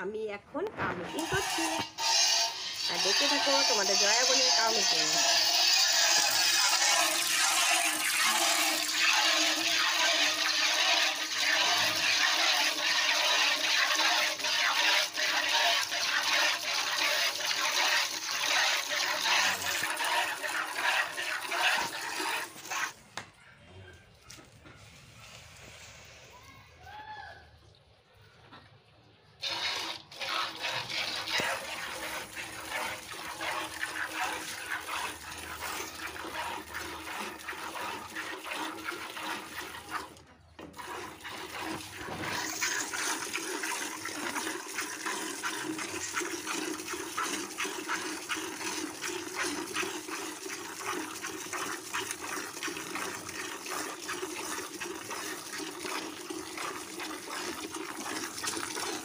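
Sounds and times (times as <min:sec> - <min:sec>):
milk squirting into steel pail: 0:00.6 - 0:23.3, 0:29.3 - 0:59.0.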